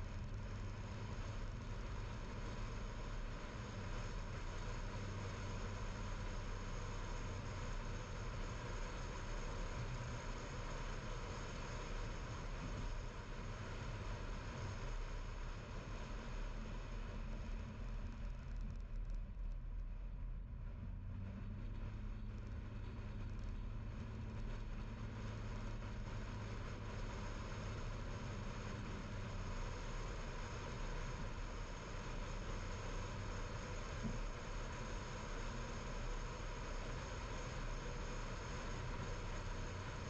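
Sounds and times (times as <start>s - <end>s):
car engine and tyre drone: 0.0s - 40.0s.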